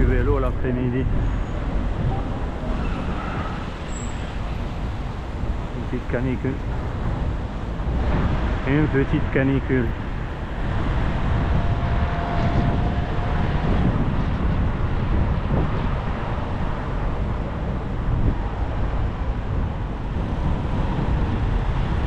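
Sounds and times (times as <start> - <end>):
road traffic: 0.0 - 22.0
wind rumble on microphone: 0.0 - 22.0.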